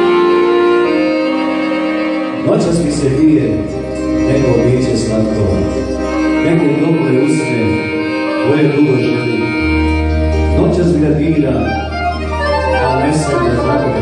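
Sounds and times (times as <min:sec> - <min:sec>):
accordion melody: 0:00.0 - 0:14.0
deep bass: 0:00.0 - 0:14.0
synthesizer keyboard accompaniment: 0:00.0 - 0:14.0.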